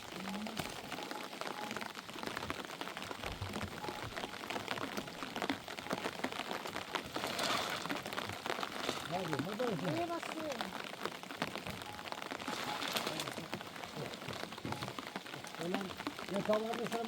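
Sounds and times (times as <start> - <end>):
heavy rain patter: 0.0 - 17.0.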